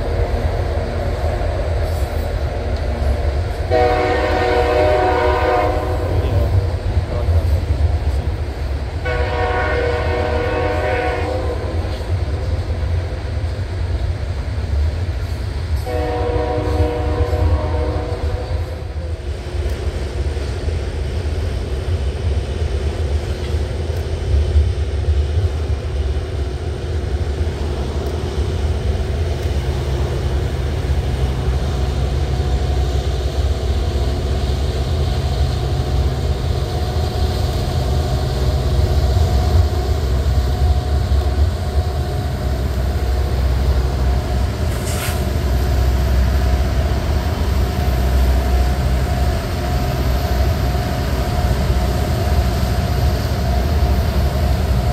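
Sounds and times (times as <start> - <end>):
diesel locomotives droning: 0.0 - 54.9
train wheels rumbling on rails: 0.0 - 54.9.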